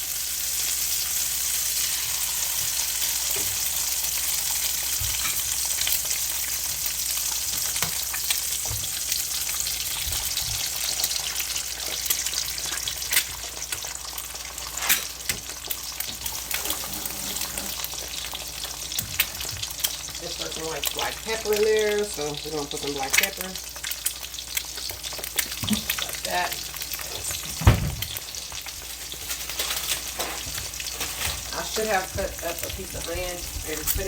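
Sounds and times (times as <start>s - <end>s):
eggs sizzling in a skillet: 0.0s - 34.0s.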